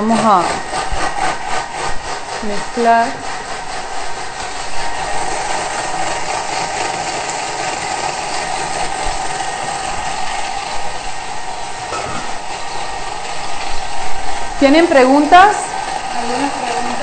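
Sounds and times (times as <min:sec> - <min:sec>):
food processor whirring: 0:00.0 - 0:17.0.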